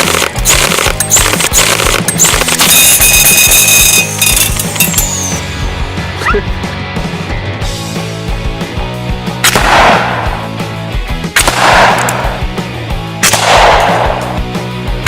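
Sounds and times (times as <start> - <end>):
background music with low tones: 0.0 - 15.0.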